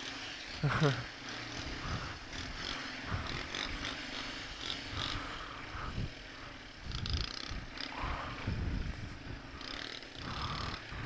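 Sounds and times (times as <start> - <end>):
atv engine low rumble: 0.0 - 11.0.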